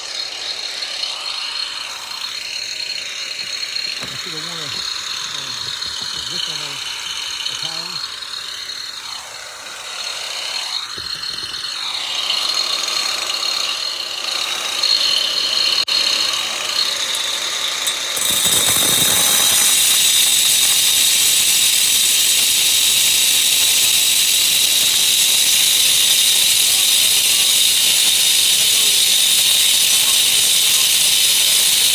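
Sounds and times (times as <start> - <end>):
electric grinder whining: 0.0 - 31.9
loud grinding noise: 0.0 - 31.9.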